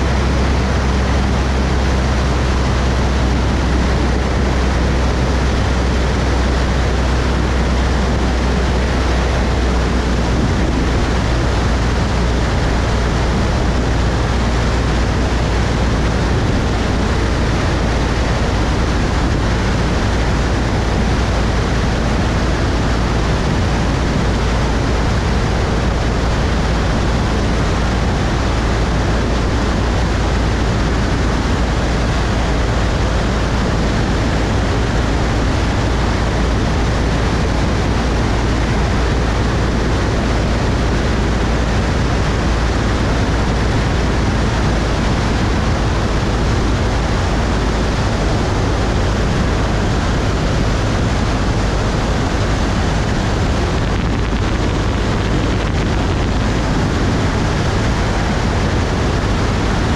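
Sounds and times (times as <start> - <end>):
piston engine and propeller drone: 0.0 - 59.9.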